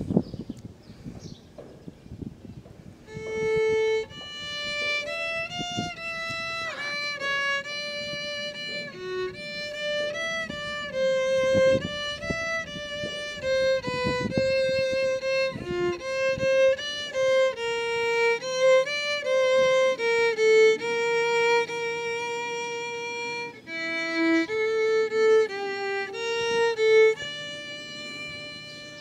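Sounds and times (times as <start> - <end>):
solo violin melody: 2.6 - 29.0.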